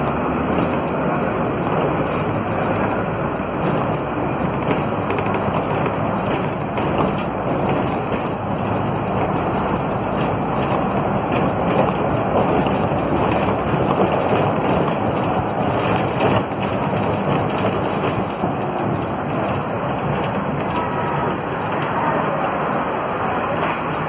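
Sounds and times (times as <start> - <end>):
bus body rattles: 0.0 - 24.0
bus engine and road rumble: 0.0 - 24.0.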